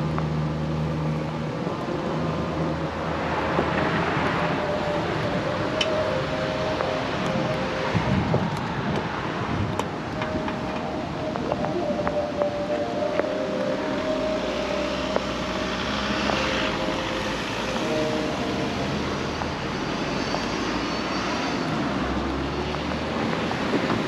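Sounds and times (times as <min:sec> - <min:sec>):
tyre and wind noise: 0:01.4 - 0:17.0, 0:17.7 - 0:24.0.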